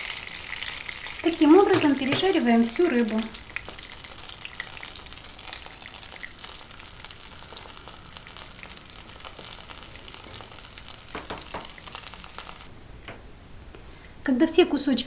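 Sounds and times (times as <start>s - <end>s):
fish frying: 0.0s - 12.7s
oil sizzling in a frying pan: 0.0s - 12.7s.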